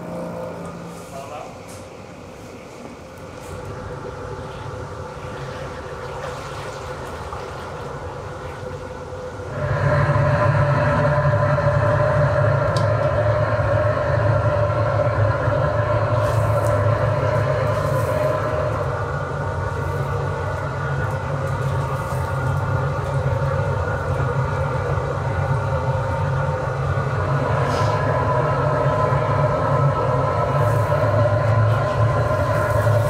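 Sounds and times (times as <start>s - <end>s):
cooking machine drone: 0.0s - 33.0s.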